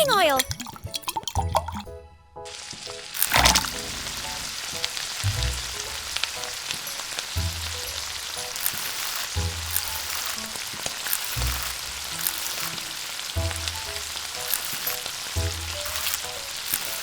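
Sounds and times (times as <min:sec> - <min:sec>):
oil sizzling and popping in a pan: 0:00.0 - 0:01.9, 0:02.5 - 0:17.0.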